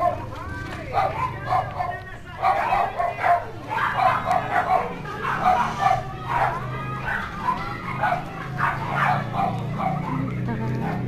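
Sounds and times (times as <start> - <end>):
dog barking and yipping: 0.9 - 11.0.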